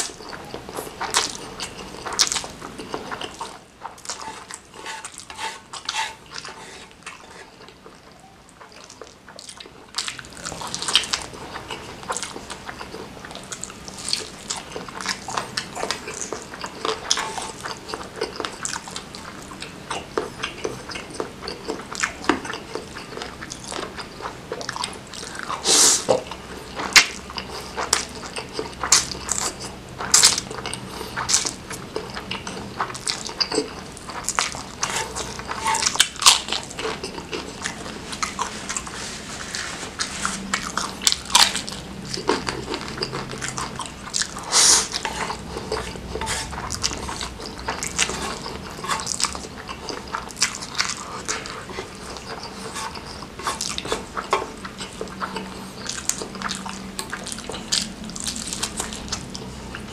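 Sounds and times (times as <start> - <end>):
wet chewing: 0.0 - 59.9.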